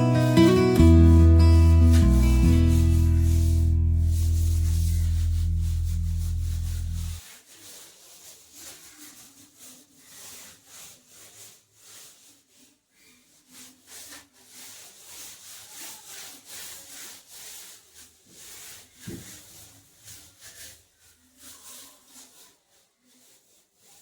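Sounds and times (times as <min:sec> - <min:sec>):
hand rubbing against a wall: 0:00.1 - 0:24.0.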